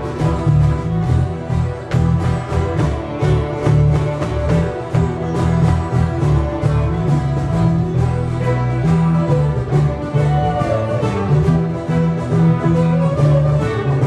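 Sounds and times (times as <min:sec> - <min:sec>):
acoustic guitar: 0:00.0 - 0:14.0
bass guitar: 0:00.0 - 0:14.0
fiddles playing a tune: 0:00.0 - 0:14.0.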